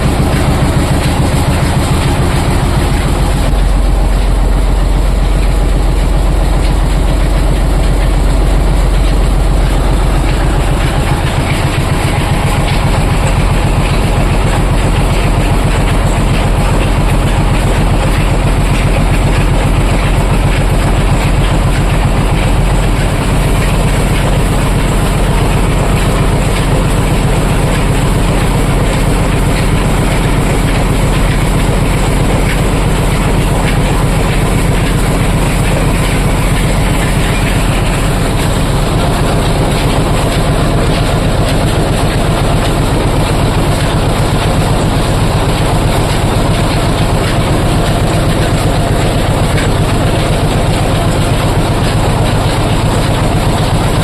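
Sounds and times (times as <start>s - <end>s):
oil expeller machine clattering: 0.0s - 54.0s.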